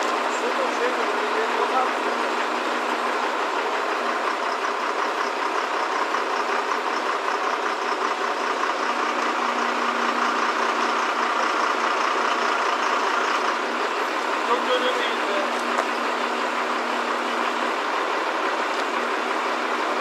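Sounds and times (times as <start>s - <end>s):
crane engine running: 0.0s - 20.0s.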